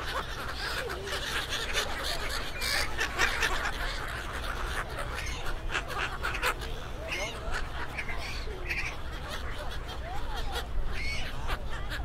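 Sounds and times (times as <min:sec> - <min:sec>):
crowd talking: 0:00.0 - 0:12.0
gulls calling: 0:00.0 - 0:12.0.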